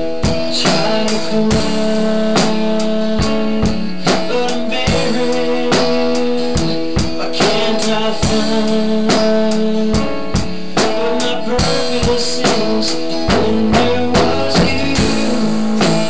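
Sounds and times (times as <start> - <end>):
drum and cymbal hits: 0.0 - 16.0
rock song chords: 0.0 - 16.0.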